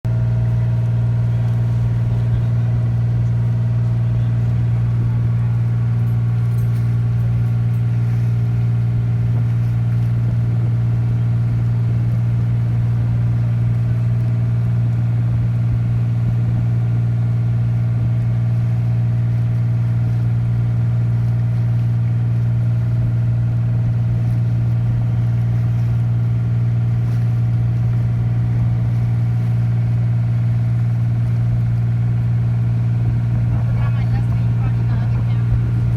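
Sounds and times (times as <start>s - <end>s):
boat engine humming: 0.0s - 35.9s.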